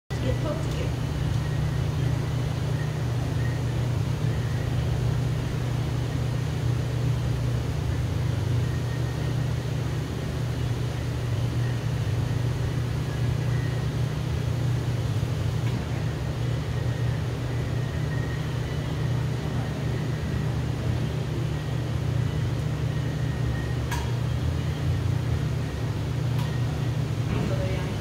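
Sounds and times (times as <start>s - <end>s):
low mechanical hum: 0.1s - 28.0s.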